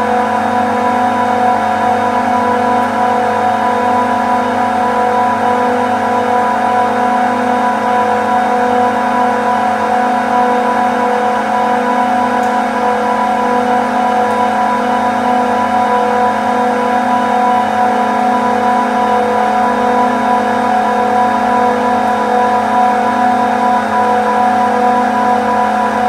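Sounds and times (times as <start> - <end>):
refrigeration compressor humming: 0.0 - 26.0.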